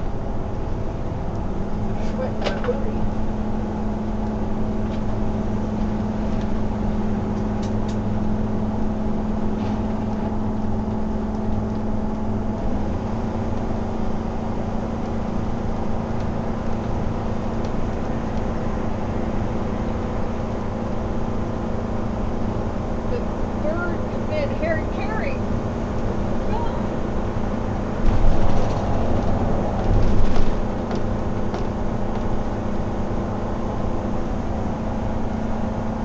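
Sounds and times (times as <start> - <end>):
vehicle engine and road drone: 0.0 - 36.0.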